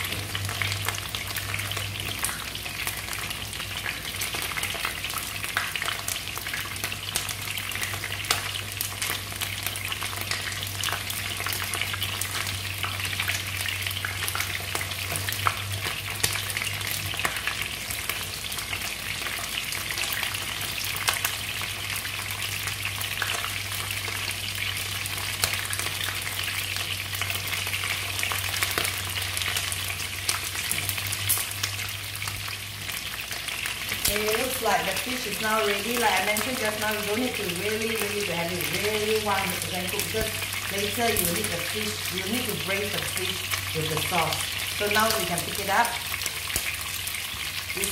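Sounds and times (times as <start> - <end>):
fish sizzling in oil: 0.0 - 47.9
low steady hum: 0.0 - 47.9.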